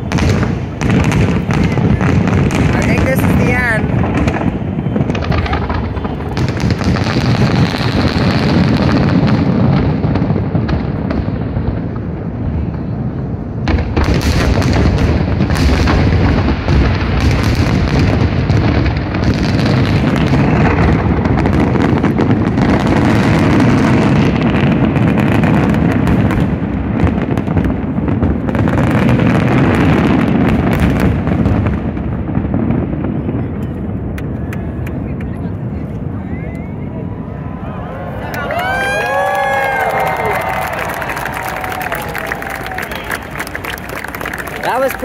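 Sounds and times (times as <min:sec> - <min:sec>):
fireworks explosions: 0:00.0 - 0:45.0.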